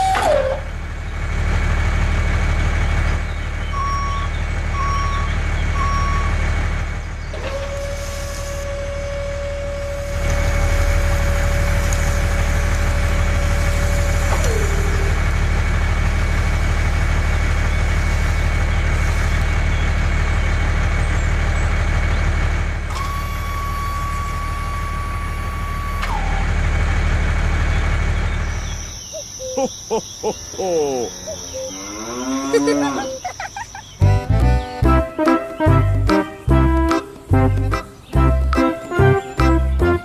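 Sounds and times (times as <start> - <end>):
truck engine rumble: 0.0 - 40.0.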